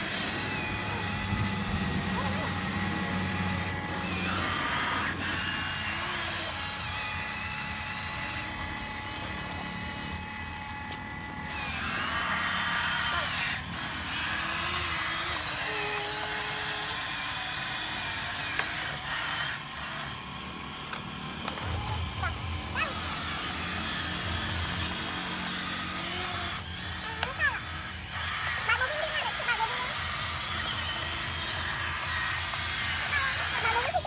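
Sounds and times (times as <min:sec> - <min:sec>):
toy truck electric motors whining: 0:00.0 - 0:34.0.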